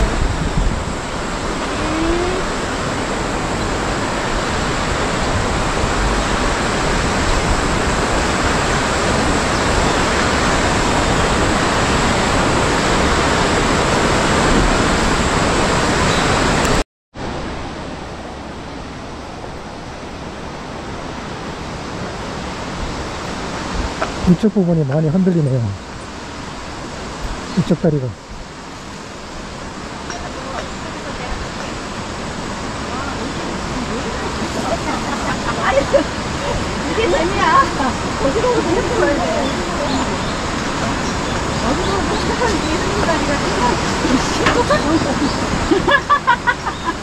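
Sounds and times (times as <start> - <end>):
rushing wind: 0.0 - 47.0.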